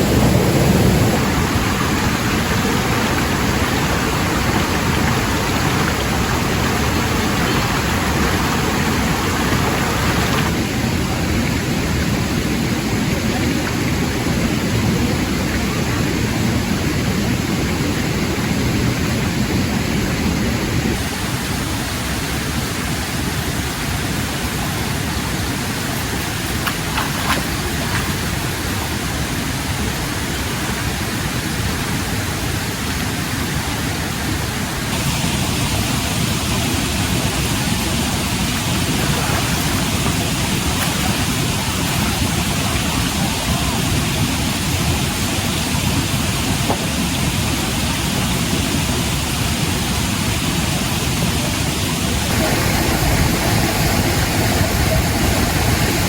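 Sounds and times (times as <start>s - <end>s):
steady hiss of noise: 0.0s - 56.0s.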